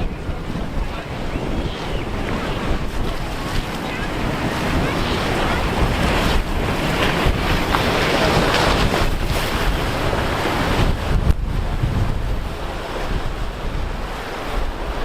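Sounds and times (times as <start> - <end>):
surf and breaking waves: 0.0 - 15.0
wind buffeting microphone: 0.0 - 15.0.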